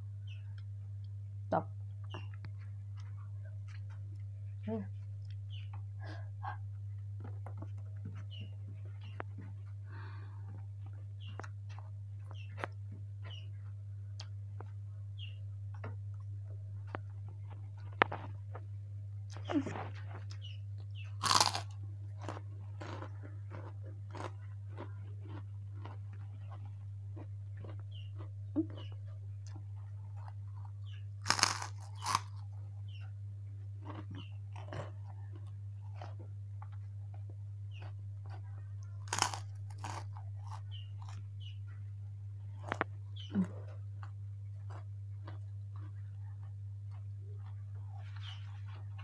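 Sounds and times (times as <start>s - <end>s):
steady low hum: 0.0s - 49.0s
person chewing food: 5.2s - 14.9s, 15.7s - 41.6s, 42.4s - 49.0s.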